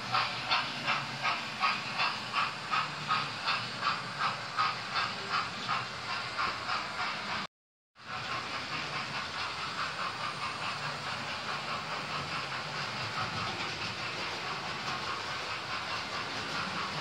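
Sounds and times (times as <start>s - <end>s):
model train wheels whirring: 0.0s - 17.0s.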